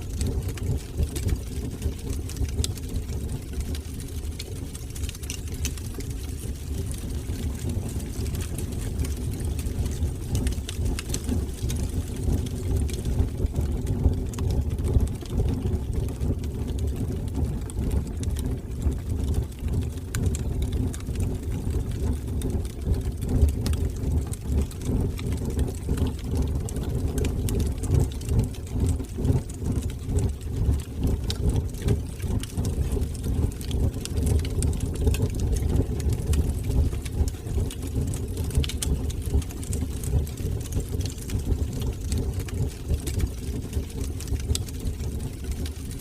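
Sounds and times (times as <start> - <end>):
fire crackling: 0.0 - 46.0
fire rumbling in fireplace: 0.0 - 46.0.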